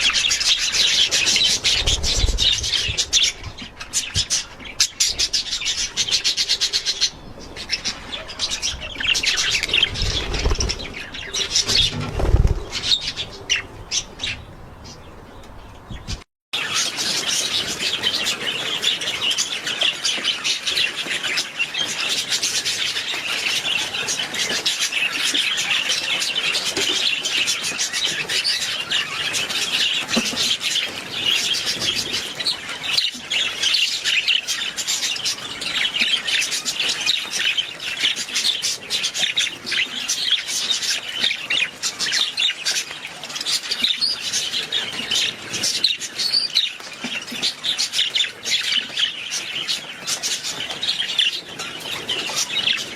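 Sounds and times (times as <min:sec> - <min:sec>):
flock of budgerigars chattering: 0:00.0 - 0:52.9.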